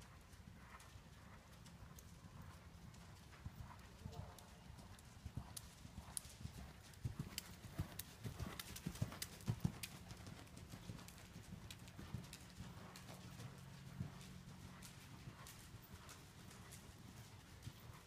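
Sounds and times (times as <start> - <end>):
horse hoofbeats on dirt: 0.7 - 18.0.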